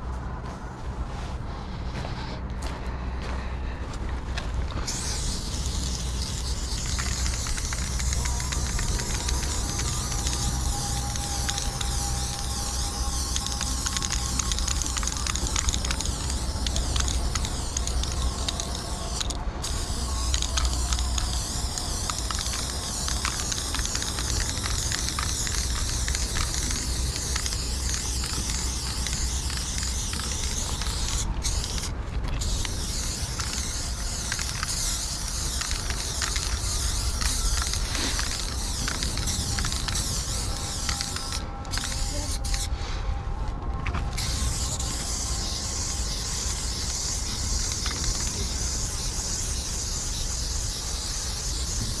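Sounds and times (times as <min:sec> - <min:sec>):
spray paint can hissing: 0:04.7 - 0:42.7, 0:43.9 - 0:52.0.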